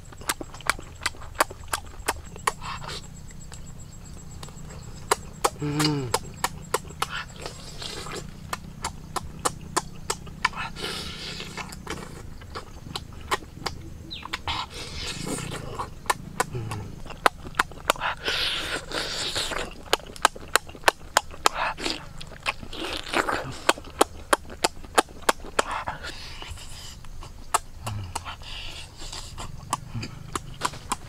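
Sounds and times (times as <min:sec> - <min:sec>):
person chewing with lip smacks: 0:00.0 - 0:31.0.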